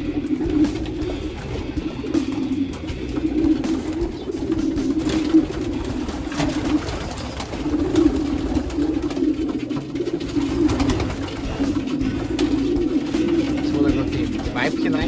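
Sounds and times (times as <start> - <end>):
pigeons cooing: 0.0 - 15.0
wings flapping: 0.0 - 15.0.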